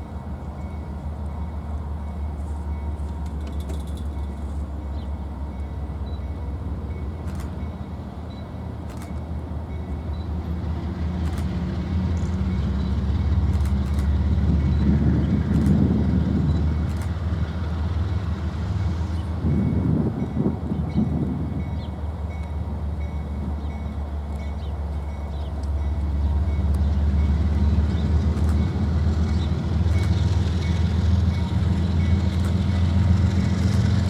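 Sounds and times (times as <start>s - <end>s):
diesel locomotive engine throb: 0.0s - 34.0s.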